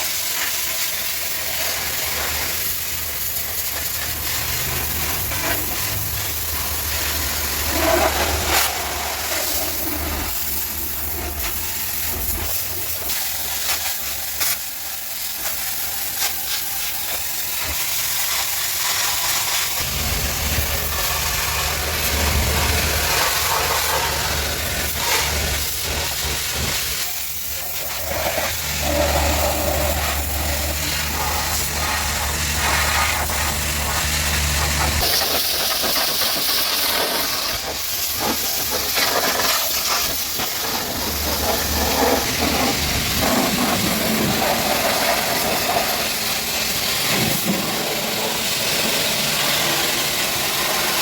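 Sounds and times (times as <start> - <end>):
pressure washer spray hiss: 0.0 - 51.0.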